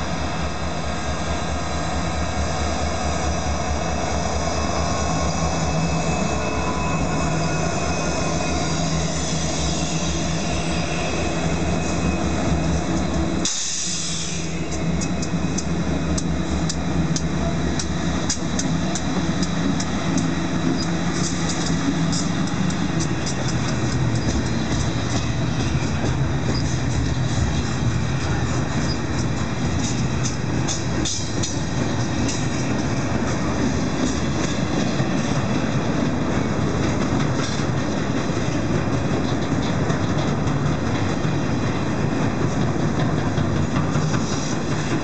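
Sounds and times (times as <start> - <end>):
diesel locomotive engine rumble: 0.0 - 45.0.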